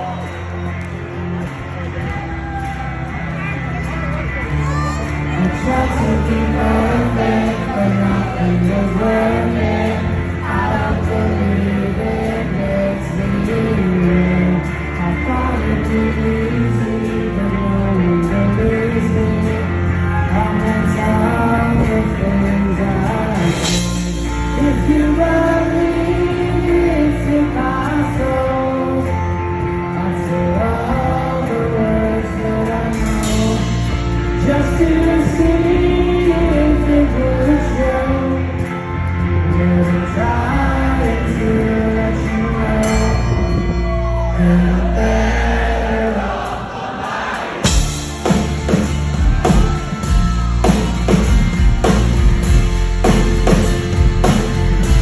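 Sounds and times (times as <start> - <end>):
rock band playing live: 0.0 - 55.0
man singing lead vocal: 3.8 - 52.0.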